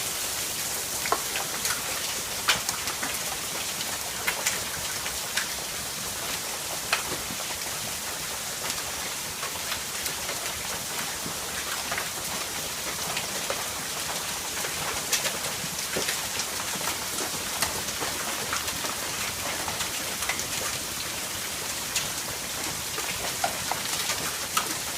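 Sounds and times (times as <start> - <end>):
hail and rain pelting: 0.0 - 24.9
hailstones ticking on hard surfaces: 0.3 - 24.9.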